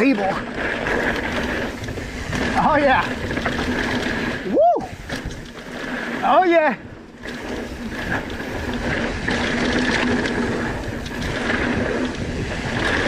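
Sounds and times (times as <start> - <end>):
bike rattling and clicking: 0.0 - 13.0
bike tyres rumbling on dirt: 0.0 - 13.0.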